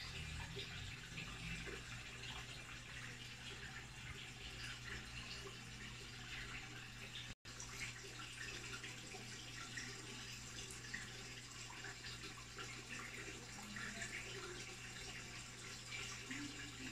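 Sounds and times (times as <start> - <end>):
aquarium water trickling and bubbling: 0.0 - 16.9.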